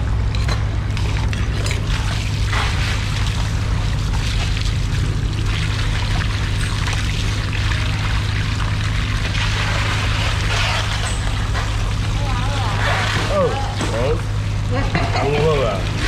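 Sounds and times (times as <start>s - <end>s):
steady low hum: 0.0s - 16.0s
running water splashing: 1.0s - 16.0s.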